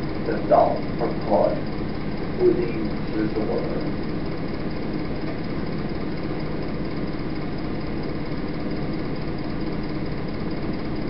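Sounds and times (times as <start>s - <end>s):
videotape hum and hiss: 0.0s - 10.9s.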